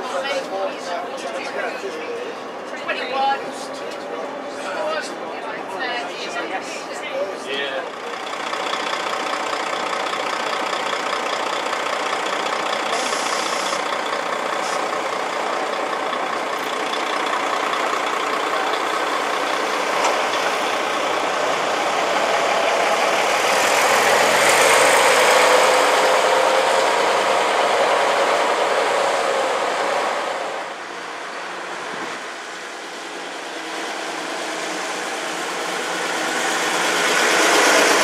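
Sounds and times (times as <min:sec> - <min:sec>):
coach diesel engine passing: 0:00.0 - 0:38.0.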